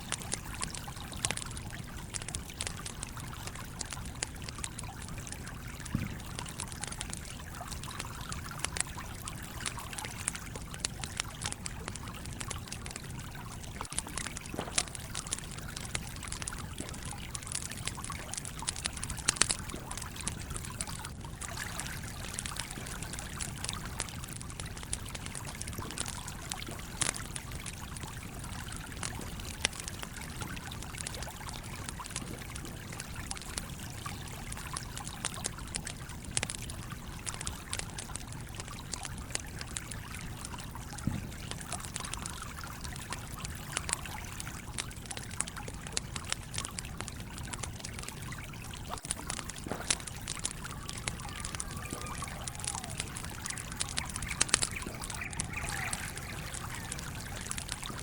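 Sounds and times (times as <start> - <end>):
stream flowing: 0.0 - 38.3, 46.2 - 58.0
campfire crackling and popping: 0.0 - 58.0.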